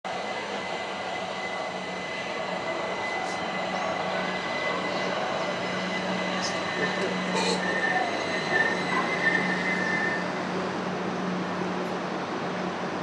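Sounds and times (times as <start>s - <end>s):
distant diesel locomotive engine: 0.1s - 13.0s.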